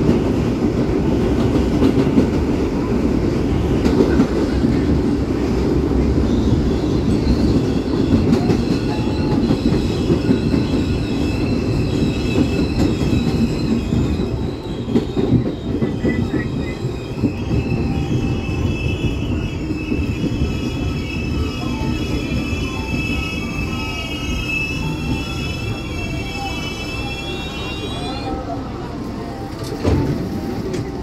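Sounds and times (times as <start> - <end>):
subway train rumbling on rails: 0.0 - 31.0.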